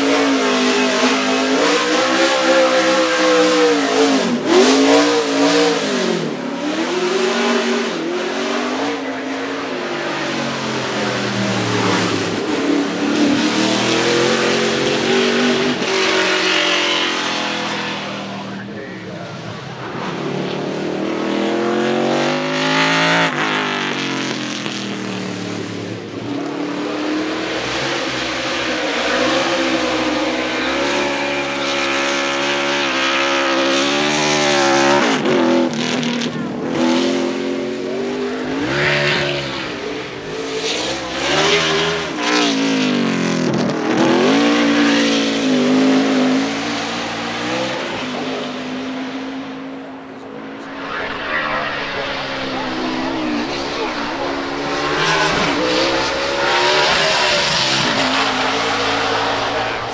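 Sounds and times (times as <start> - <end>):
race car engines at full throttle: 0.0 - 59.9.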